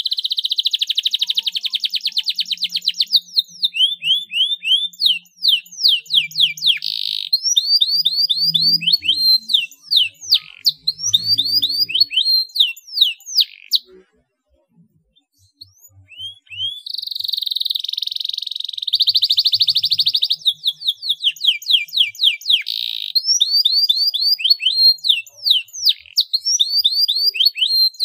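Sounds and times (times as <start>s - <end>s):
canary singing: 0.0s - 28.0s.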